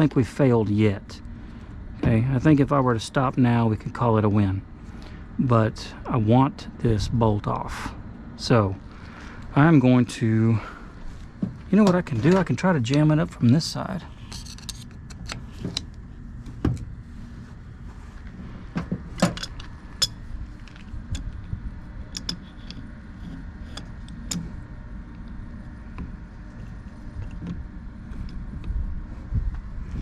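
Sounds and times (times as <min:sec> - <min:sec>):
low rumble: 0:04.5 - 0:30.0.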